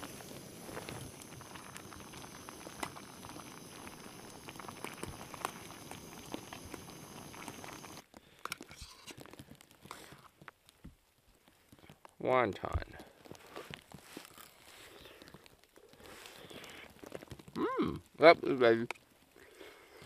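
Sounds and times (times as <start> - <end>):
pot boiling with hiss and pops: 0.0 - 20.0.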